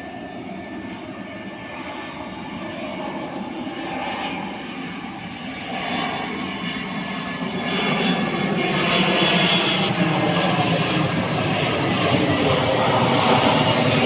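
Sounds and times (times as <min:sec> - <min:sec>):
airplane flying overhead: 0:00.0 - 0:14.0.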